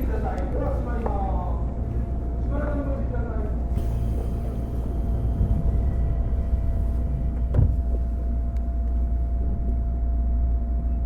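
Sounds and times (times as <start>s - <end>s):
electric train running: 0.0s - 11.0s.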